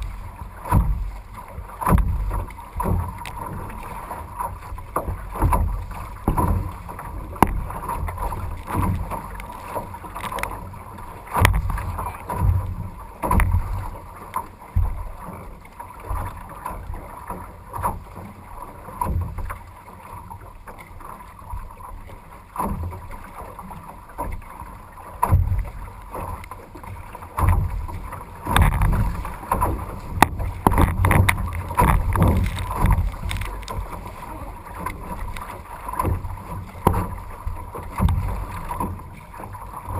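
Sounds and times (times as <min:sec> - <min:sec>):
low thumps and splashes: 0:00.0 - 0:39.9
waves splashing against canoe hull: 0:00.0 - 0:39.9.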